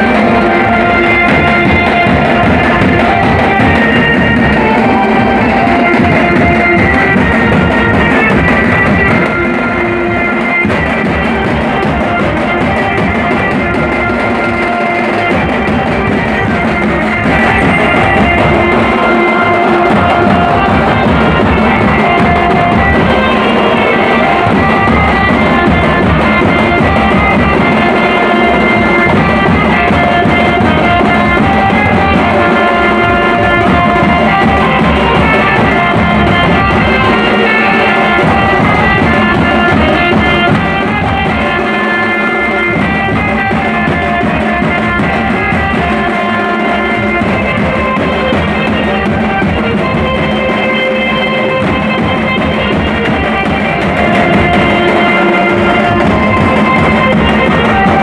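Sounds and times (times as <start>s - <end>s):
loud music with guitar and drums: 0.0s - 58.0s.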